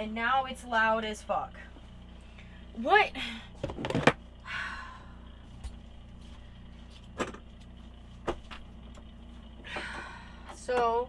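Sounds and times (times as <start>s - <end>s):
fridge compressor humming: 0.0s - 11.0s.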